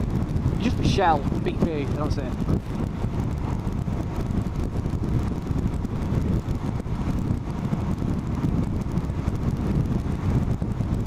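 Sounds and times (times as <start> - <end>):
motorcycle road noise: 0.0 - 11.0
wind buffeting microphone: 0.0 - 11.0.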